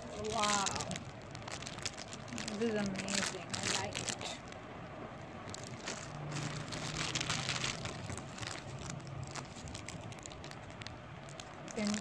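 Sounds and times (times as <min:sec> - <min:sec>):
plastic bags crinkling: 0:00.0 - 0:04.6, 0:05.4 - 0:12.0.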